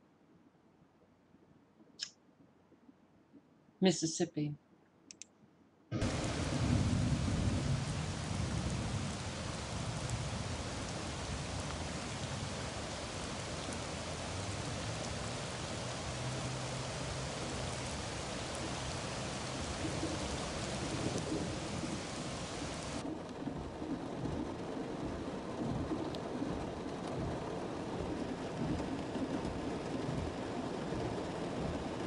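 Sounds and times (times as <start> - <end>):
heavy rain pouring: 6.0 - 32.0.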